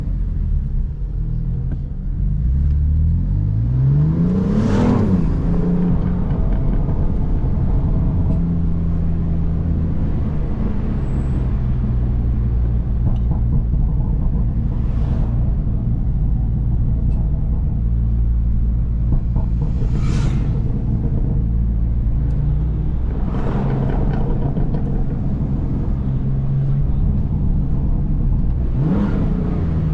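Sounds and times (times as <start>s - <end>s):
car exhaust revving and droning: 0.0s - 29.9s.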